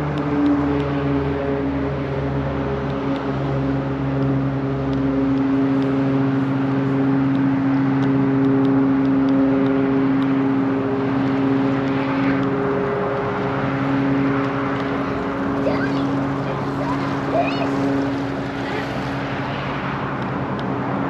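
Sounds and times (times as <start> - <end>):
motorboat engine drone: 0.0 - 21.0.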